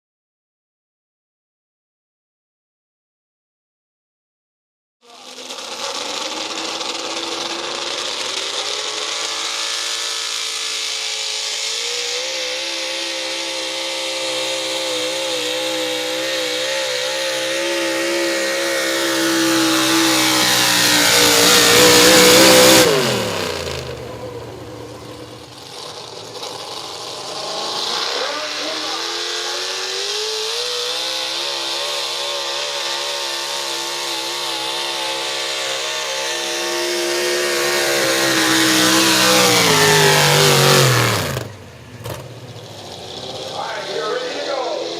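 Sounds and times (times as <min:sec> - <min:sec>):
truck engine revving hard: 0:05.0 - 0:44.9.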